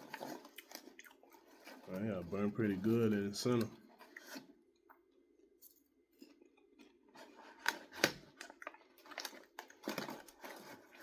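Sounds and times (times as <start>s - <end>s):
person chewing popcorn: 0.0s - 5.5s, 6.2s - 11.0s.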